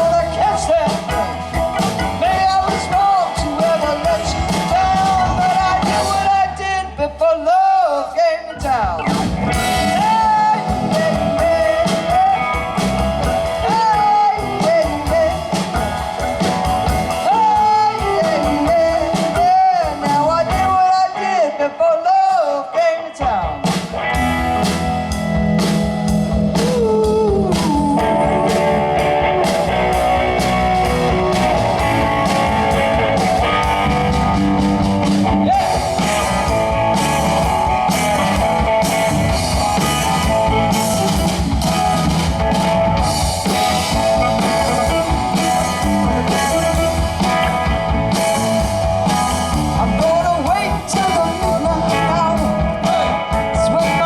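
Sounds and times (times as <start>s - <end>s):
lead guitar bent notes: 0.0s - 7.1s, 8.5s - 19.4s, 23.6s - 54.0s
blues rock band playing: 0.0s - 54.0s.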